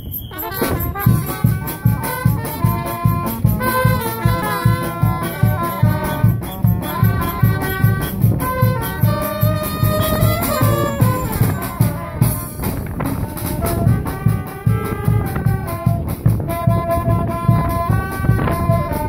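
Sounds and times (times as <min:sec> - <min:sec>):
bass drum beat: 0:00.0 - 0:19.0
brass band playing: 0:00.0 - 0:19.0.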